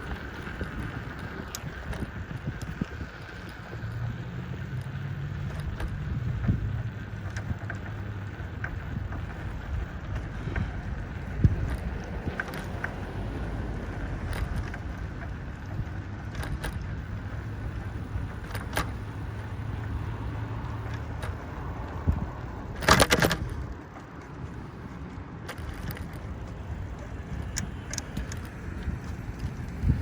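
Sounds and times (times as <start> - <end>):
bike clicks and rattles: 0.0 - 30.0
wind and bike ride rumble: 0.0 - 30.0.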